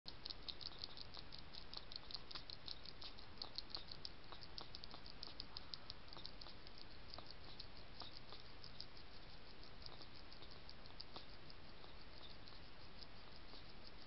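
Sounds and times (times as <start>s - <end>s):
faint background hiss: 0.1s - 14.0s
hedgehog feeding clicks: 0.1s - 14.0s.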